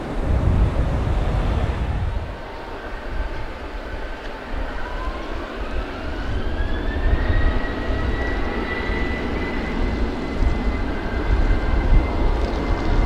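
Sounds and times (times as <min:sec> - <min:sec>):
jet engines spooling up: 0:00.0 - 0:13.0.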